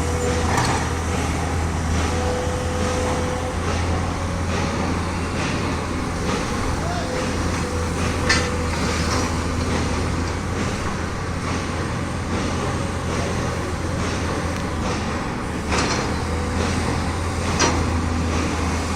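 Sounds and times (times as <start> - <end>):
heavy machinery droning: 0.0 - 18.9.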